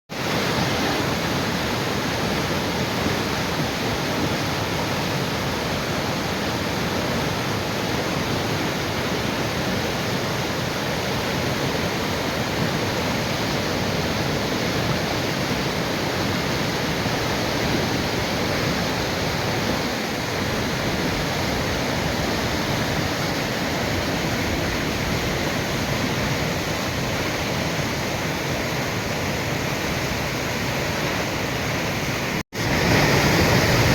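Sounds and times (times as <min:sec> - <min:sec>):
river water rushing: 0:00.1 - 0:33.9.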